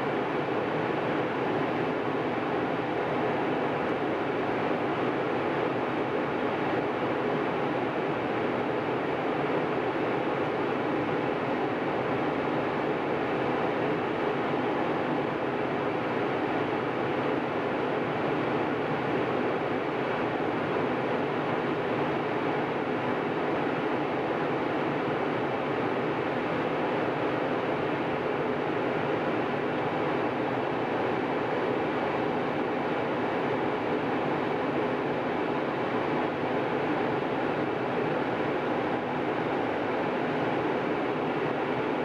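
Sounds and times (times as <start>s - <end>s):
airliner cabin engine rush: 0.0s - 42.0s.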